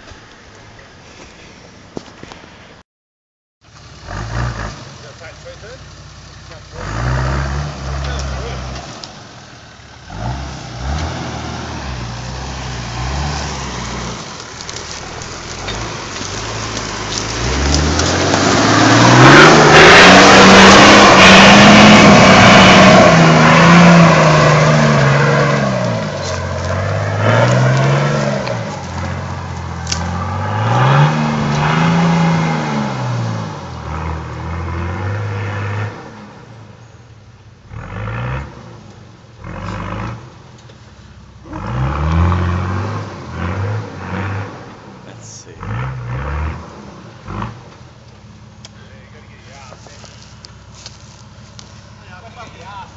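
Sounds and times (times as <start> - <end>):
off-road vehicle engine revving: 3.8 - 36.7, 37.6 - 52.9.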